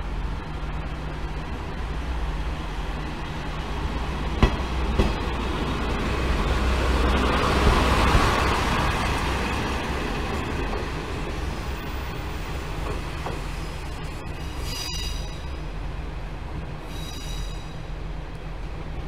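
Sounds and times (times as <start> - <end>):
diesel railcar engine rumble: 0.0 - 19.0.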